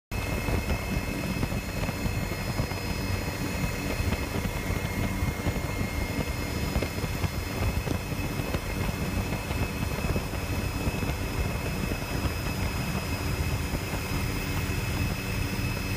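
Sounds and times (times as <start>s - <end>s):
helicopter engine and rotor drone: 0.1s - 15.9s
thin high whine: 0.1s - 15.9s.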